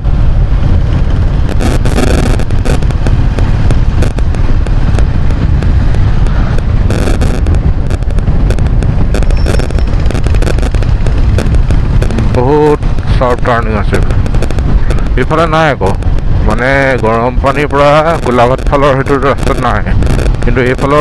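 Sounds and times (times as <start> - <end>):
wind buffeting on microphone: 0.0 - 21.0.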